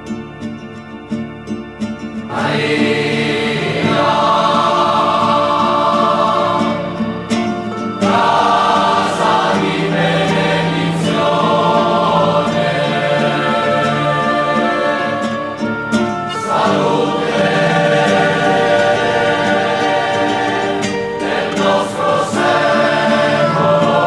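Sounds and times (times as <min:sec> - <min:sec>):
guitar: 0:00.0 - 0:24.0
choir singing a hymn: 0:02.2 - 0:24.0.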